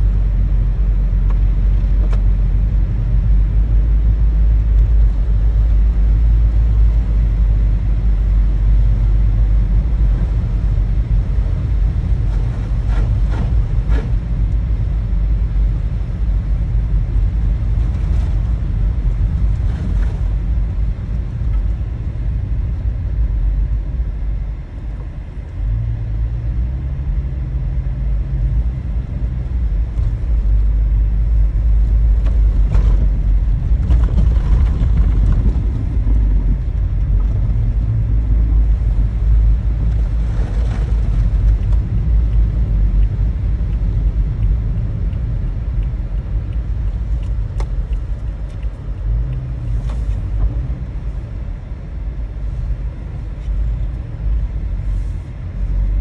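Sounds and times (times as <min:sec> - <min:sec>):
car engine rumble: 0:00.0 - 0:56.0
tyres on slushy road: 0:00.0 - 0:56.0.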